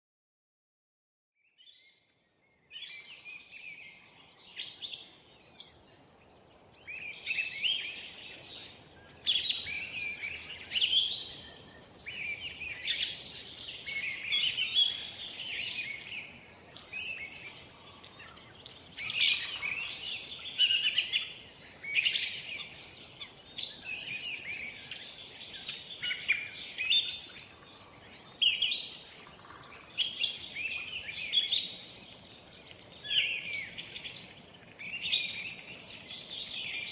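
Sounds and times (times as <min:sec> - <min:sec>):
birds singing and chirping: 0:02.7 - 0:36.9
faint steady hiss: 0:02.7 - 0:36.9.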